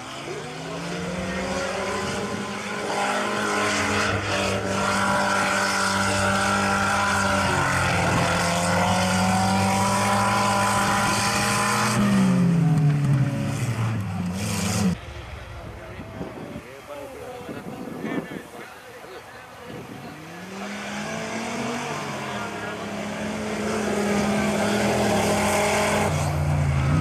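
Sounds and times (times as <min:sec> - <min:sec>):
engine at high revs: 0:00.0 - 0:15.0, 0:19.6 - 0:27.0.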